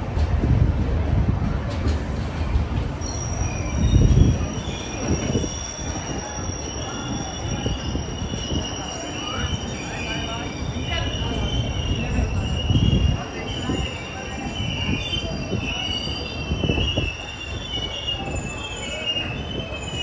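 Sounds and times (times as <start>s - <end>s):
train rumble: 0.0s - 20.0s
train wheels squealing: 2.2s - 20.0s.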